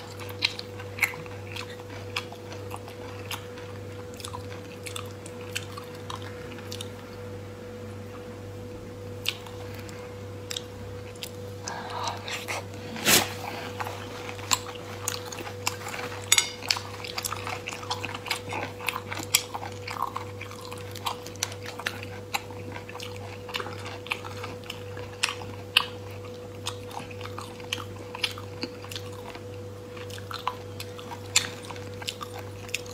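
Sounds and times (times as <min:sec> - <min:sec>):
wet chewing: 0:00.0 - 0:06.9, 0:09.2 - 0:32.9.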